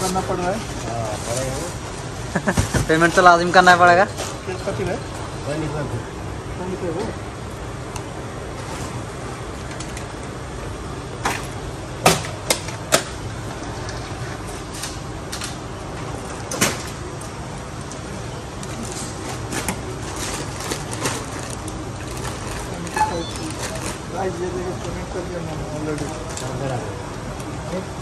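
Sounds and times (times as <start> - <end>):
store hum: 0.0 - 28.0.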